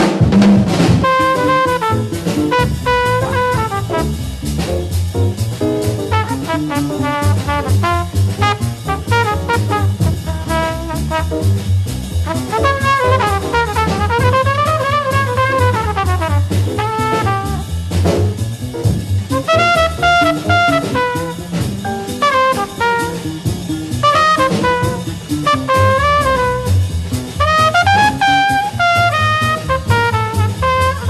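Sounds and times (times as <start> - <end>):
bass: 0.0 - 31.0
drum kit with cymbals: 0.0 - 31.0
horn playing fast jazz solo: 0.6 - 31.0.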